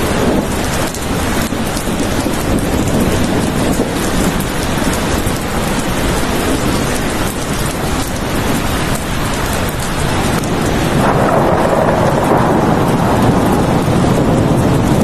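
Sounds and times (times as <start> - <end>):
deep rumble: 0.0 - 15.0
heavy rain pattering: 0.0 - 15.0.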